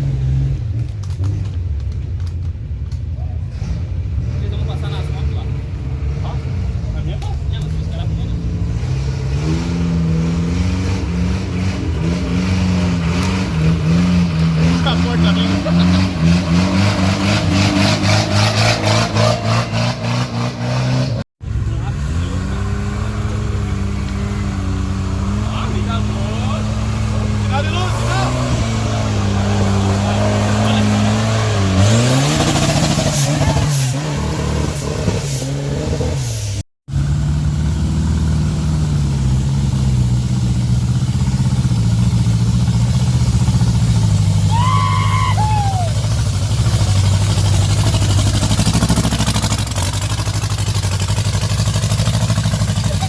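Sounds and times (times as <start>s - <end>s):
motorcycle engine revving: 3.5s - 53.0s.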